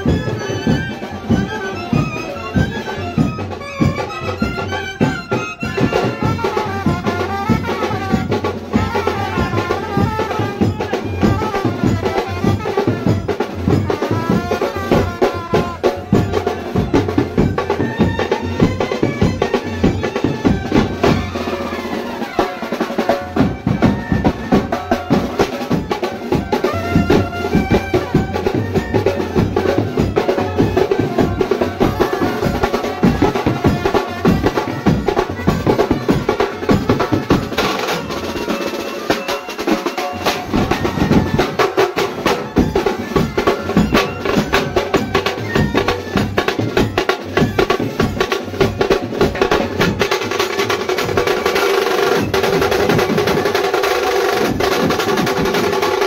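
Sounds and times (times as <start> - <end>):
snare and bass drum beats: 0.0 - 56.0
trumpets clarinet and saxophone melody: 0.0 - 56.0.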